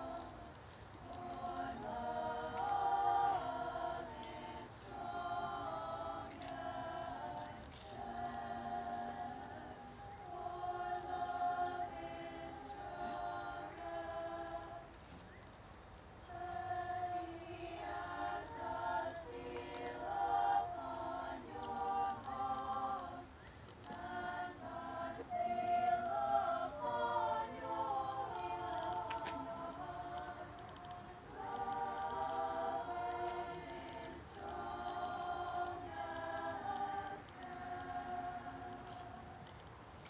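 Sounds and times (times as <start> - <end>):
girls' choir singing: 0.0 - 15.2, 16.2 - 39.5.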